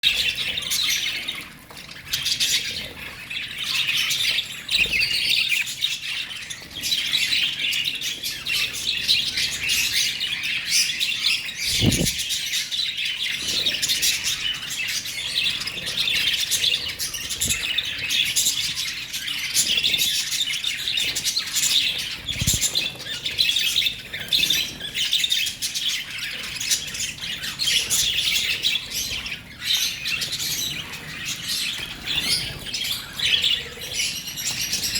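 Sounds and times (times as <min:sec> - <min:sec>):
lovebirds chirping: 0:00.0 - 0:34.9.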